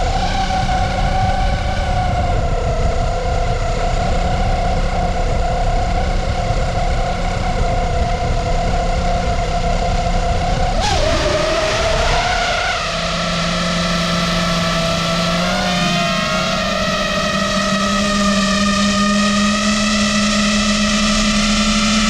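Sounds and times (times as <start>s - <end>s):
quadcopter motors whining: 0.0s - 22.0s
wind rumble on microphone: 0.0s - 22.0s.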